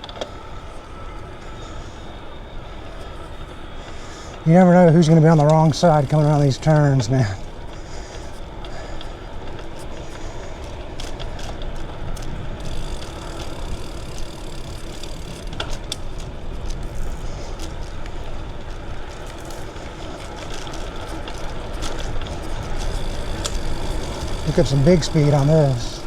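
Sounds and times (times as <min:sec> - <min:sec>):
bicycle tyre noise: 0:00.0 - 0:26.0
bike clicks and rattles: 0:00.0 - 0:26.0
wind rumble on microphone: 0:00.0 - 0:26.0.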